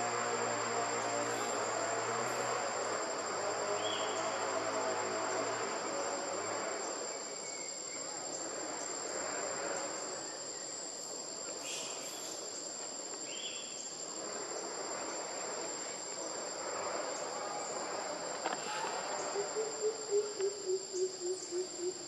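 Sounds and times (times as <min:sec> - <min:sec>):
insects buzzing in chorus: 0:00.0 - 0:22.0.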